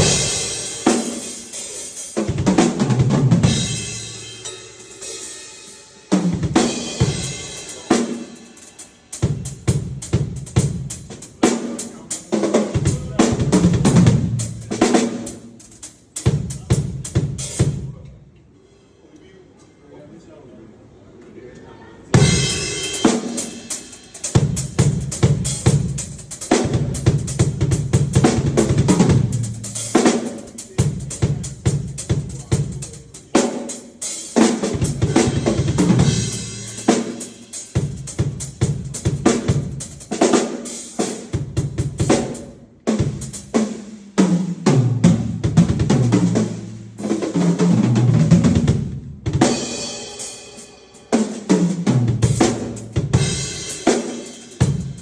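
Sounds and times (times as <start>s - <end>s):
drum kit playing: 0.0s - 18.0s, 22.2s - 55.0s.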